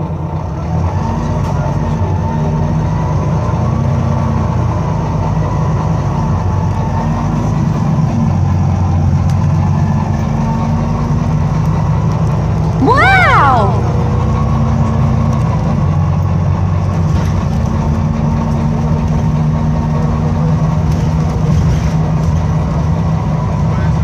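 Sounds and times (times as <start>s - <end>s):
bus diesel engine drone: 0.0s - 24.0s
road noise: 0.0s - 24.0s.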